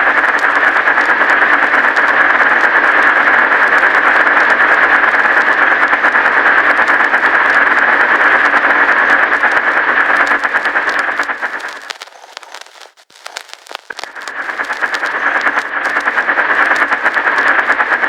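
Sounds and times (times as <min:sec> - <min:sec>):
crackling clicks: 0:00.0 - 0:18.0
steady loud hiss: 0:00.0 - 0:18.0.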